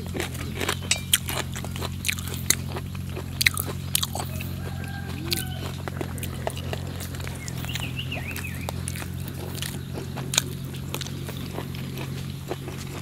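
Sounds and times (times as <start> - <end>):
man chewing with wet smacks: 0.0 - 13.0
steady low hum: 0.0 - 13.0.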